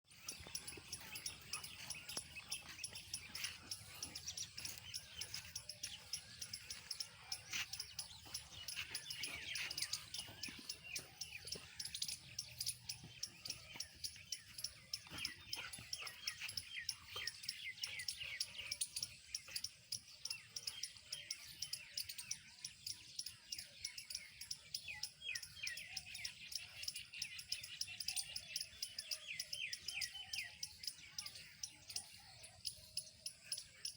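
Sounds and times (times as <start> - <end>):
chorus of high chirps: 0.0 - 33.9.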